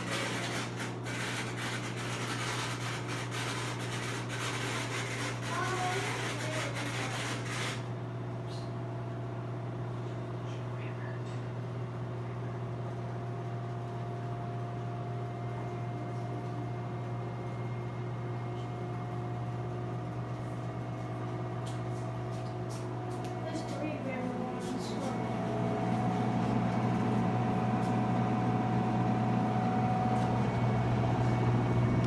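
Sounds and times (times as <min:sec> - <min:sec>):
washing machine high whine: 0:00.0 - 0:32.0
washing machine humming: 0:00.0 - 0:32.0.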